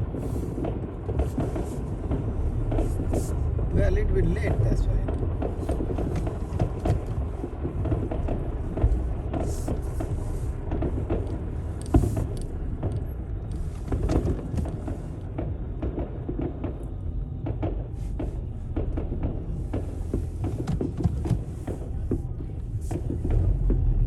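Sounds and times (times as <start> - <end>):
road rumble: 0.0 - 24.0.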